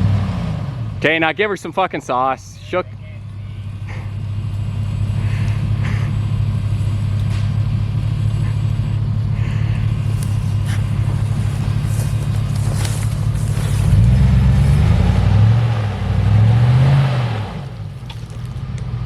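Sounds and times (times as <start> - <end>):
off-road engine at high revs: 0.0 - 19.0.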